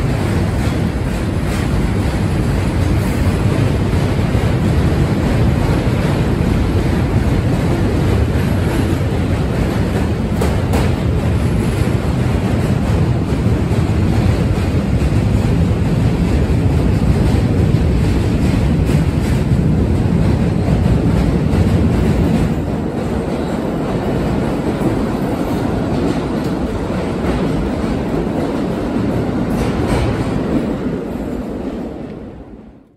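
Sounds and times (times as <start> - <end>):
subway train rumble and wheel clatter: 0.0 - 32.9.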